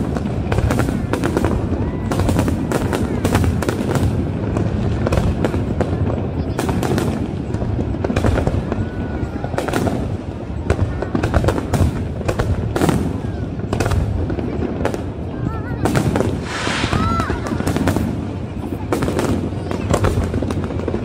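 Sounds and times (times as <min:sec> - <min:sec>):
distant detonations rumbling: 0:00.0 - 0:21.0
fireworks bangs and crackles: 0:00.0 - 0:21.0.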